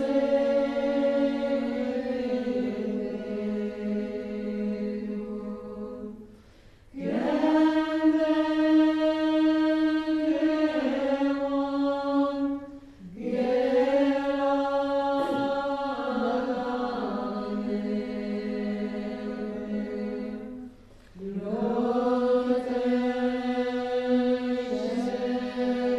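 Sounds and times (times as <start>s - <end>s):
women chanting together: 0.0s - 6.2s, 6.9s - 25.9s.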